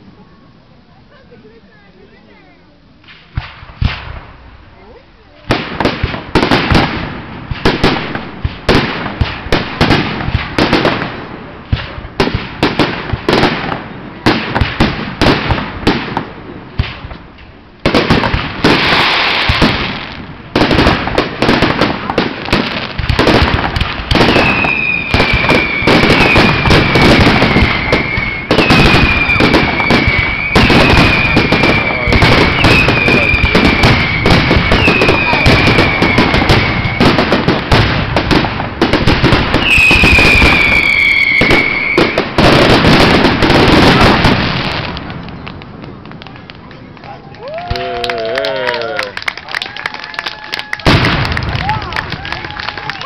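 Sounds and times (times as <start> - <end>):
fireworks bangs and crackle: 2.2 - 53.0.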